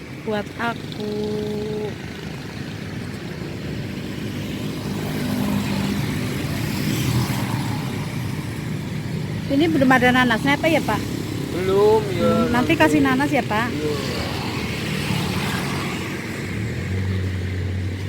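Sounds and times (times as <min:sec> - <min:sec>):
motor traffic passing: 0:00.0 - 0:18.0.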